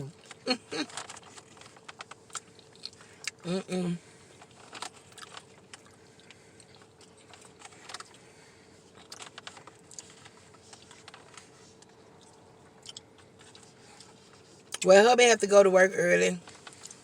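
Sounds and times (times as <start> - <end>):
light clicks and crinkles: 0.0 - 3.4, 4.1 - 14.9, 16.4 - 17.0
faint hum: 0.0 - 17.0
faint chewing: 0.1 - 14.8, 16.4 - 17.0.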